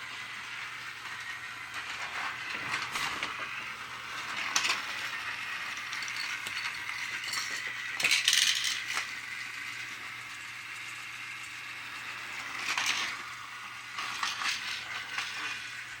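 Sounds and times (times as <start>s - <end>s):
toy motor whirring: 0.0s - 16.0s.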